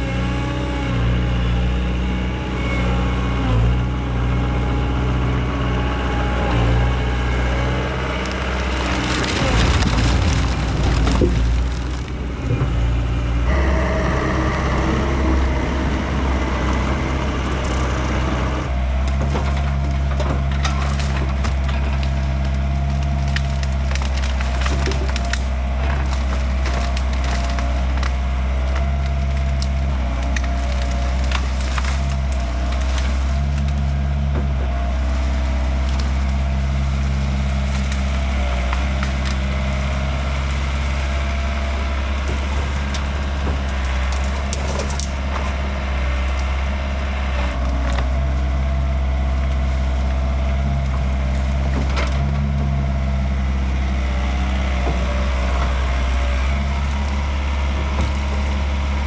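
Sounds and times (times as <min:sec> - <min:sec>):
excavator diesel engine running: 0:00.0 - 0:59.0
wood cracking and splintering: 0:06.2 - 0:13.7, 0:14.5 - 0:59.0.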